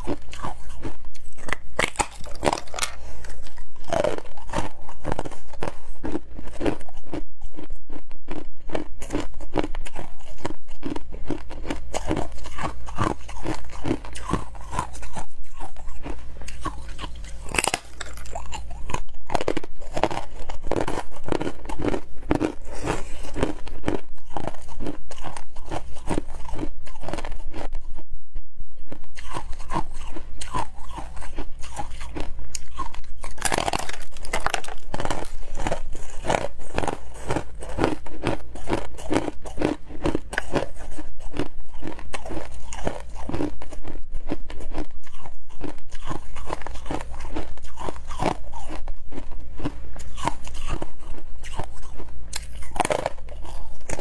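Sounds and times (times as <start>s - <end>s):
crunching and chewing ice: 0.0s - 28.1s, 28.8s - 54.0s.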